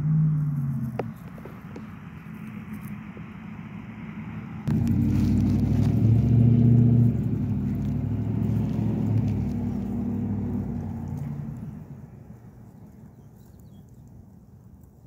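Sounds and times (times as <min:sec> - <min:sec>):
engine humming: 0:00.0 - 0:14.2.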